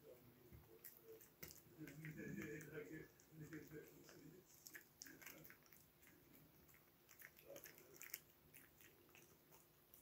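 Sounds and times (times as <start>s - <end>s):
dog chewing treat: 0.6s - 10.0s.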